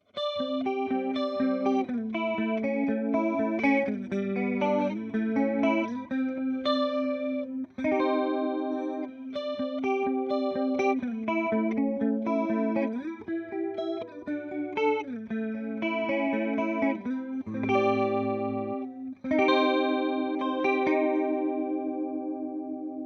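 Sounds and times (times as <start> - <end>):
electric guitar with chorus: 0.0 - 23.0.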